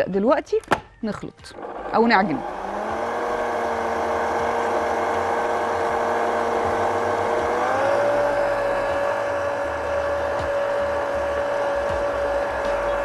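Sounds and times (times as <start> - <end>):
stand mixer motor whining: 1.5 - 13.0.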